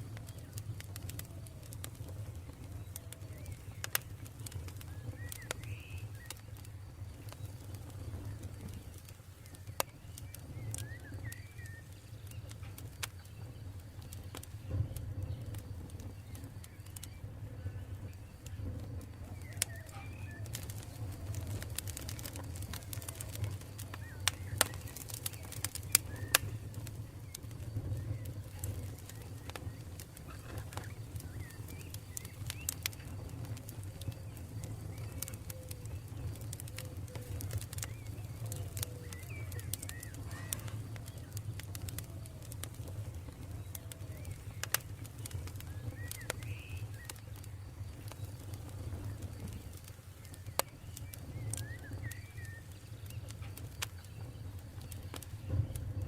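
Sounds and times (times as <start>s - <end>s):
campfire crackling and popping: 0.0s - 56.0s
low rumble of fire: 0.0s - 56.0s
faint bird calls: 0.1s - 55.8s.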